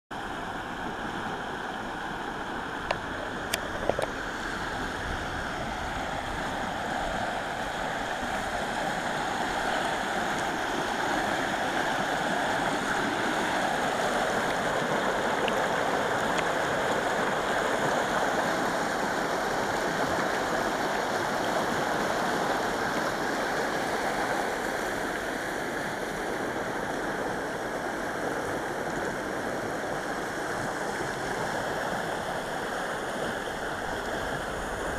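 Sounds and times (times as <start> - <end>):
river water rushing over rapids: 0.2 - 34.9.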